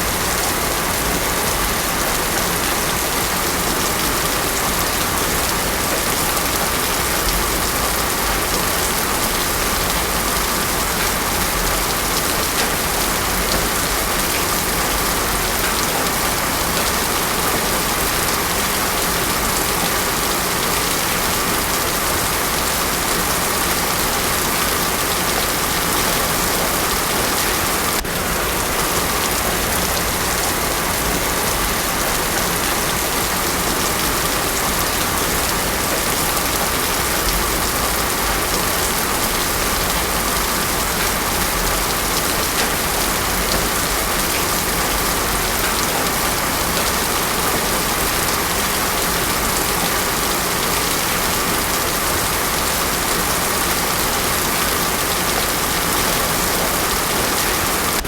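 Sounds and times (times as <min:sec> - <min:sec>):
heavy rain on road: 0:00.0 - 0:58.0.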